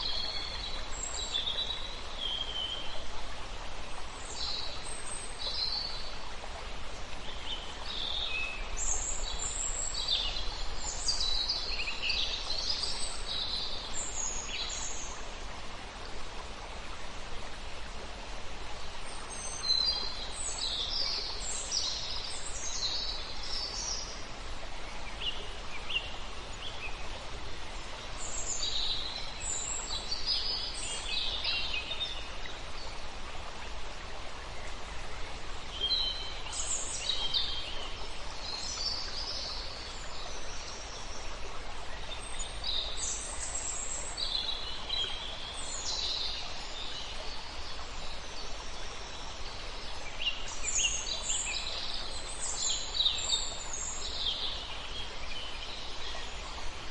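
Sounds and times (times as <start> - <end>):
river water flowing: 0.0 - 56.9
songbirds chirping: 0.0 - 56.9.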